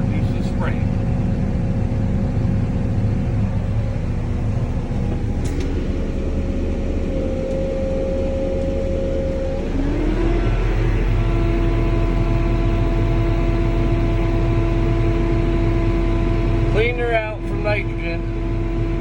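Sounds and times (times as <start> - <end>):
crop sprayer engine running: 0.0 - 19.0.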